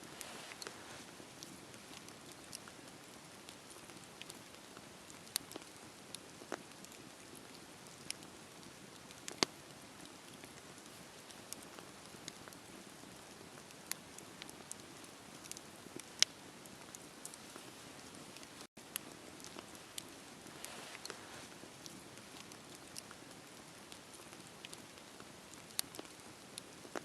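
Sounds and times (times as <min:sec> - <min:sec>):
bonfire crackling: 0:00.0 - 0:27.0.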